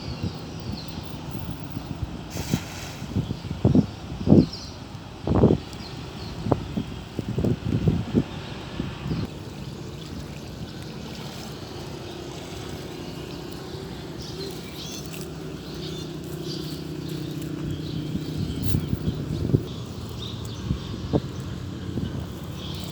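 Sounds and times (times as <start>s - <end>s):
birds chirping: 0.0s - 2.2s, 3.0s - 22.9s.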